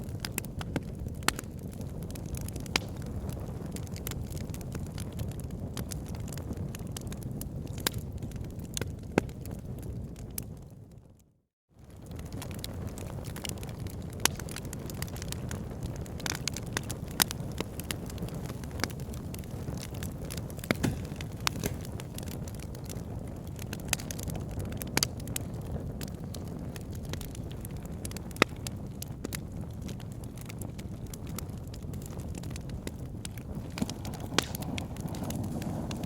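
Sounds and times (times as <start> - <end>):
wood crackling and popping: 0.0 - 10.7, 11.8 - 36.0
low rush of flames: 0.0 - 11.0, 11.8 - 36.0.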